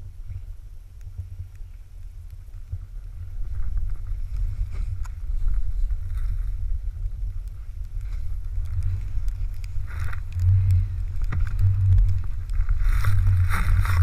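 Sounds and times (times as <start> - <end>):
wind buffeting camera: 0.0 - 14.0
snowboard sliding through snow: 2.8 - 14.0.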